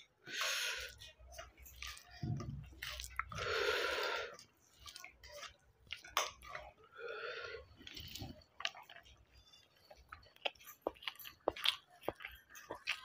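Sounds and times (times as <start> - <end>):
chewing rice: 0.0 - 13.0.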